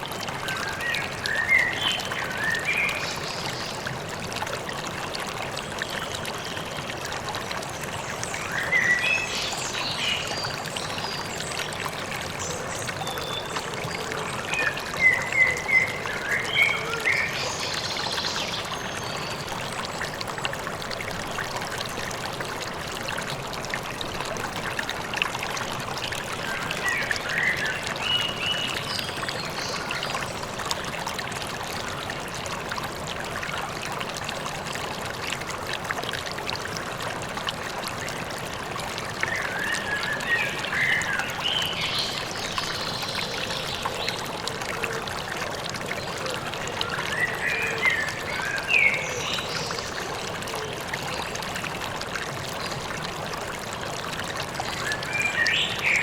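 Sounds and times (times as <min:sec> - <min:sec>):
stream running: 0:00.0 - 0:56.0.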